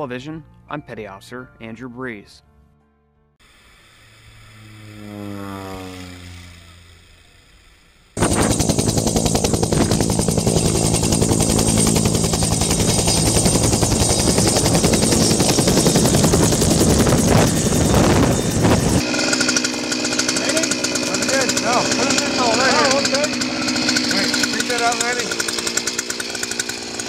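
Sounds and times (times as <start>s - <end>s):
propeller plane flying over: 3.7s - 27.0s
helicopter rotor chopping: 3.8s - 27.0s.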